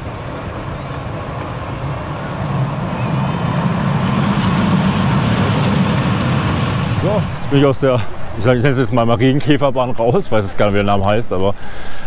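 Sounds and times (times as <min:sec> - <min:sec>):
roller coaster rolling on track: 0:00.0 - 0:11.6.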